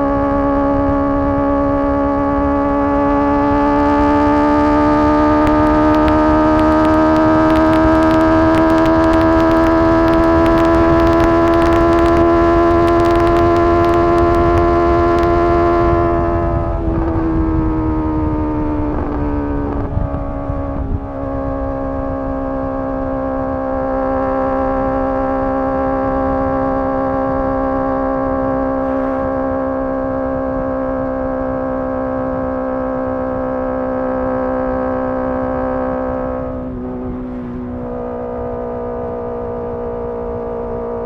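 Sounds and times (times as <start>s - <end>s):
wind rush: 0.0s - 32.5s, 35.2s - 41.0s
motorcycle engine at high revs: 0.0s - 41.0s.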